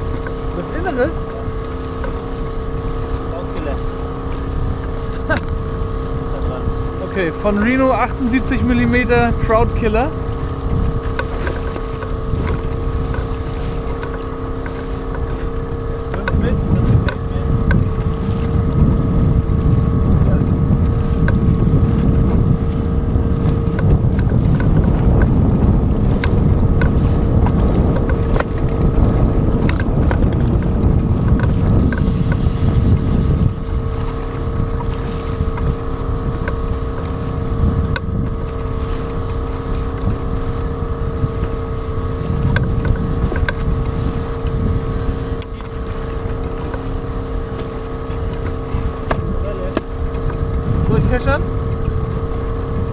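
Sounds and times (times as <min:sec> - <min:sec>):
outboard motor running: 0:00.0 - 0:52.9
wind buffeting microphone: 0:00.0 - 0:52.9.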